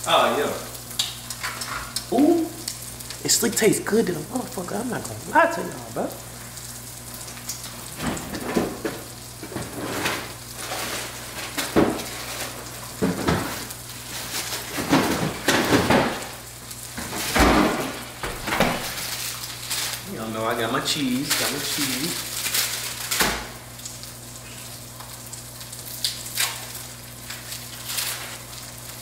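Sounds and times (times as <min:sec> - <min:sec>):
meat and onions sizzling in pan: 0:00.0 - 0:29.0.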